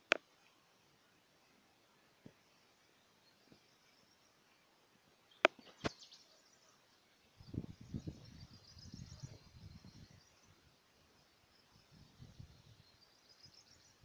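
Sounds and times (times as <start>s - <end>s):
faint high chirping: 2.4s - 14.0s.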